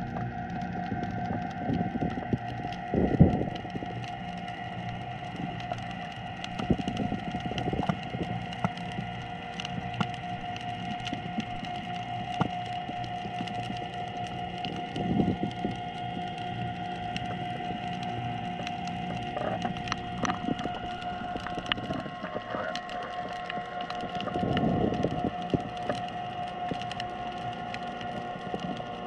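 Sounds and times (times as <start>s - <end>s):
clicks and crackles: 0.0s - 29.0s
underwater hum: 0.0s - 29.0s.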